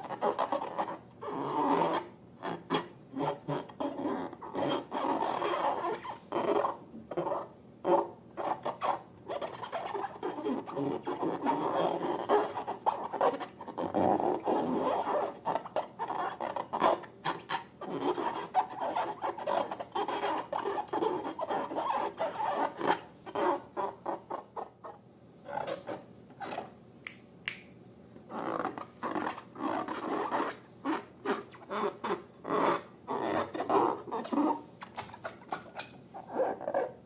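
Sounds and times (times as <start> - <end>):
rapid rubbing and scratching: 0.0 - 26.7, 28.3 - 37.0.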